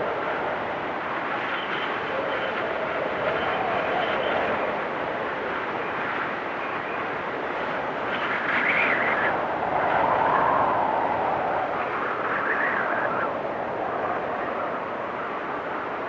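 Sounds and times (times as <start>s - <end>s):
howling blizzard wind gusts: 0.0s - 16.0s.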